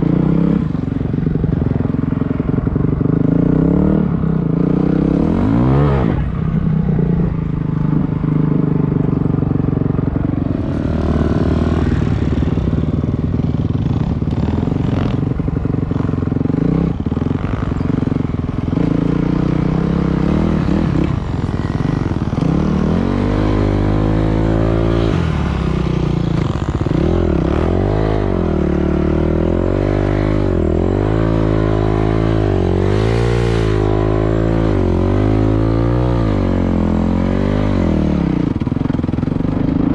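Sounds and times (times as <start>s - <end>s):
dirt bike engine revving: 3.0s - 8.1s, 10.5s - 13.2s, 13.8s - 39.9s.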